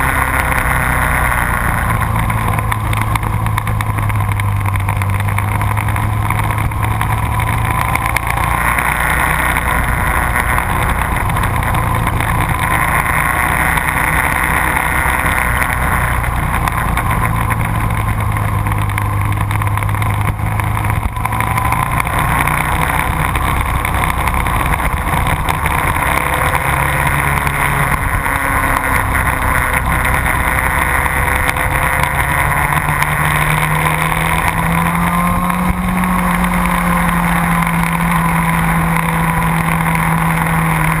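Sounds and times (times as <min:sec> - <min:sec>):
motorcycle engine running hard: 0:00.0 - 0:41.0.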